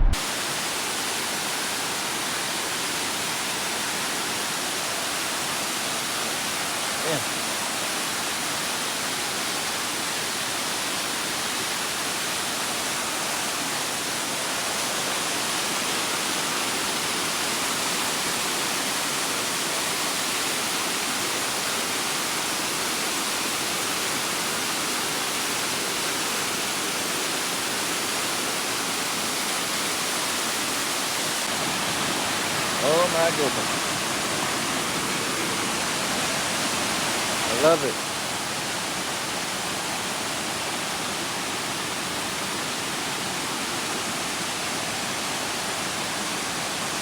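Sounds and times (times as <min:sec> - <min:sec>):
rushing water: 0:00.0 - 0:47.0.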